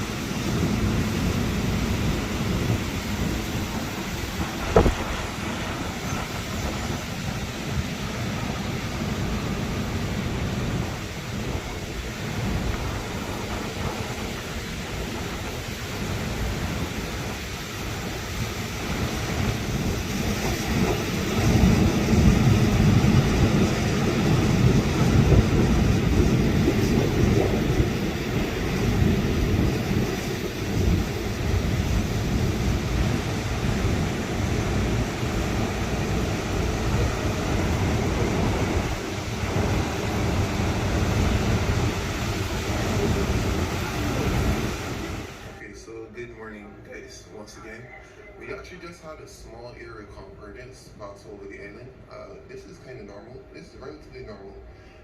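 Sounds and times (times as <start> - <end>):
storm wind gusting: 0.0 - 45.7.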